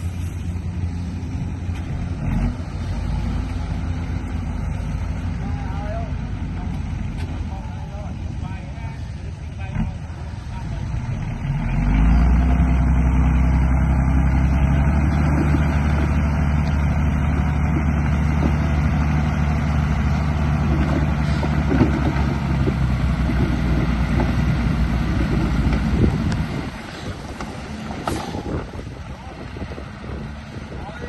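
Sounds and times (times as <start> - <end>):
engine-like drone: 0.0 - 31.0.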